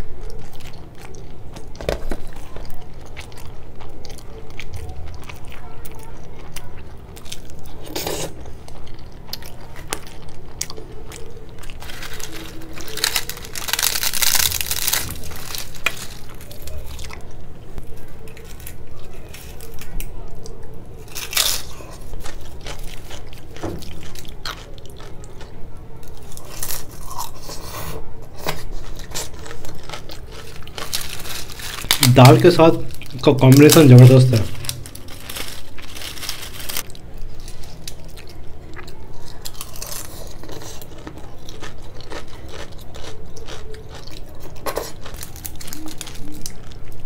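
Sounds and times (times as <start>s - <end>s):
chewing and crunching fried bread: 0.0s - 47.0s.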